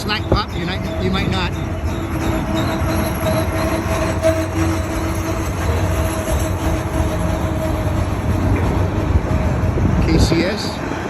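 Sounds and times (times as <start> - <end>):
freight train wheels rumbling: 0.0 - 11.0
steady whine: 0.0 - 11.0.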